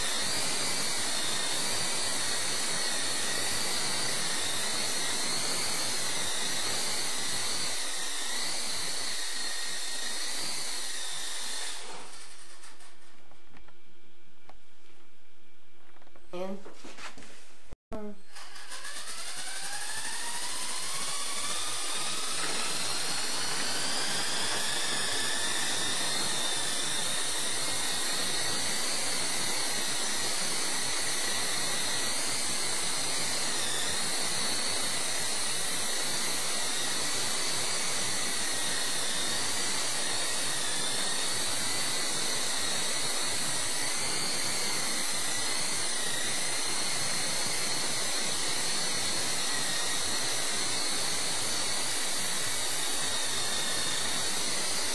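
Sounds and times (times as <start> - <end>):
rc helicopter motor whine: 0.0 - 13.2, 18.0 - 54.9.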